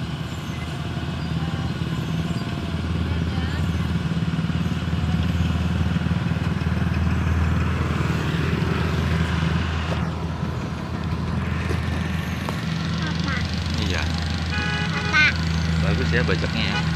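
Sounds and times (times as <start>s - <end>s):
combine harvester engine droning: 0.0s - 16.9s.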